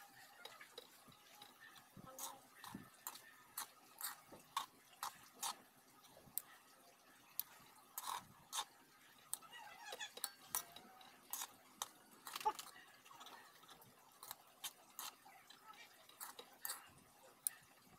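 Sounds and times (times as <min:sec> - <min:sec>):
metal spoon scraping a wok: 0:00.2 - 0:05.6, 0:07.9 - 0:16.9.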